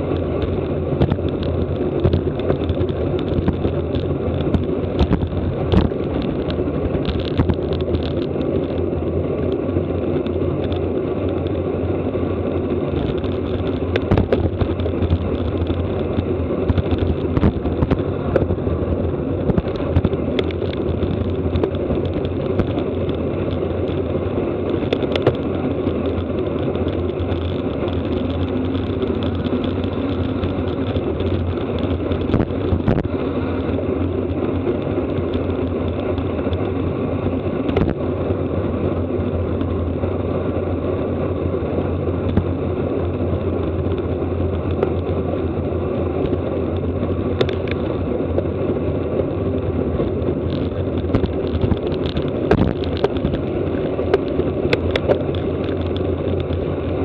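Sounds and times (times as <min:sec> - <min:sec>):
bicycle road noise: 0:00.0 - 0:57.0
sharp little clicks and rattles: 0:00.0 - 0:57.0
wind rush: 0:00.0 - 0:57.0.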